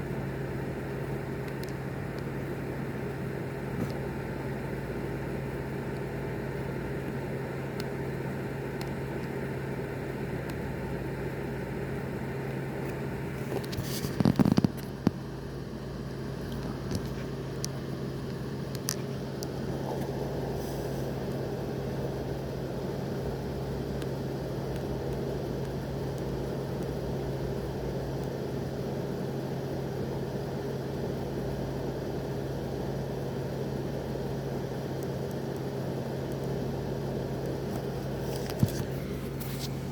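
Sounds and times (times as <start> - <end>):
constant even noise: 0.0 - 39.9
low mechanical hum: 0.0 - 39.9.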